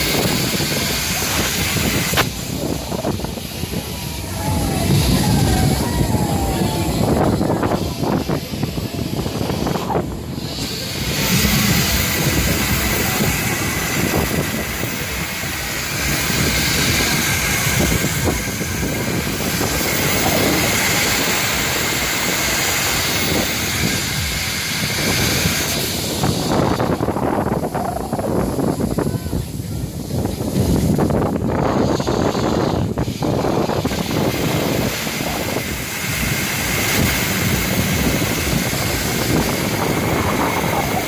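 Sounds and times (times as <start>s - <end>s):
ride machinery: 0.0s - 41.0s
wind rushing: 0.0s - 41.0s.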